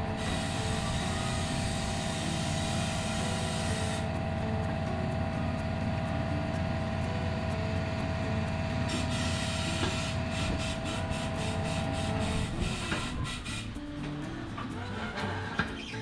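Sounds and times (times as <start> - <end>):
steady machine drone: 0.0 - 16.0.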